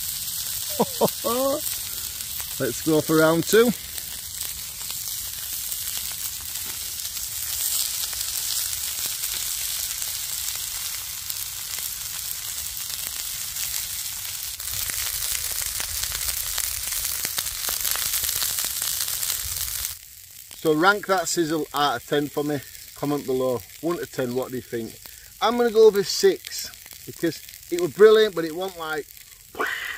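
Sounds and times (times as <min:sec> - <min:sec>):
steaks sizzling in a frying pan: 0:00.0 - 0:29.9.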